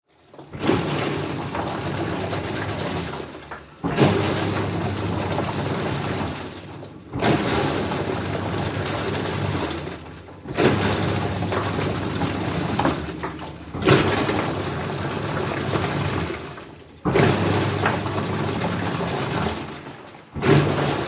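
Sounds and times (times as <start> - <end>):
washing machine motor hum: 0.2 - 21.0
water sloshing: 0.3 - 21.0.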